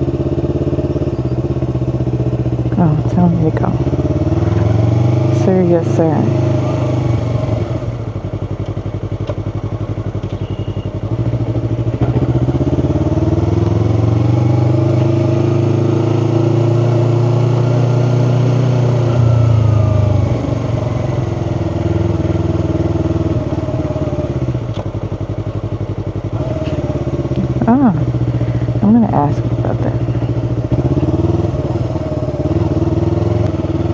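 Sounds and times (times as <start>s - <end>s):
motorcycle engine pulling: 0.0s - 33.9s.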